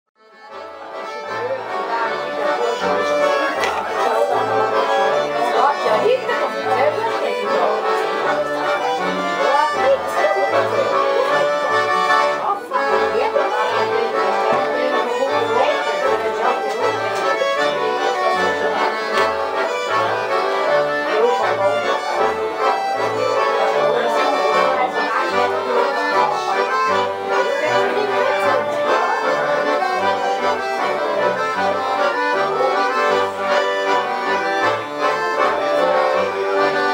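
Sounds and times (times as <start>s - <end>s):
accordion music: 0.2s - 36.9s.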